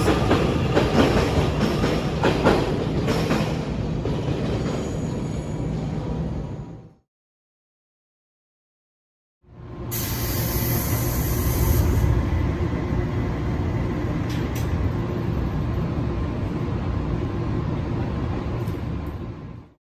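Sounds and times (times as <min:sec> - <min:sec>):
electric train rumbling: 0:00.0 - 0:07.0, 0:09.5 - 0:19.8.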